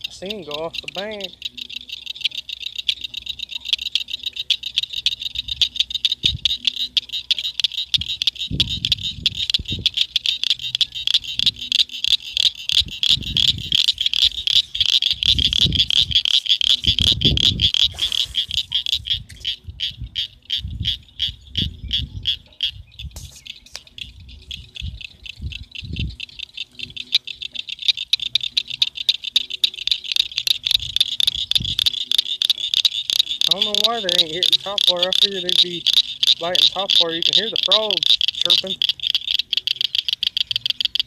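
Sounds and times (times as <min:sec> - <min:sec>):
frog chirping: 0:00.0 - 0:41.0.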